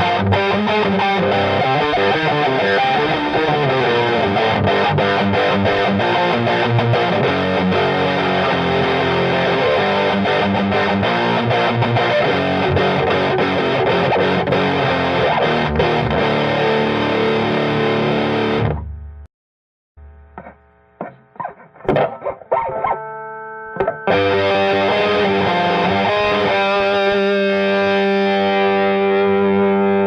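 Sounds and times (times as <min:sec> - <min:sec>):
distorted electric guitar: 0:00.0 - 0:19.3, 0:20.0 - 0:30.0.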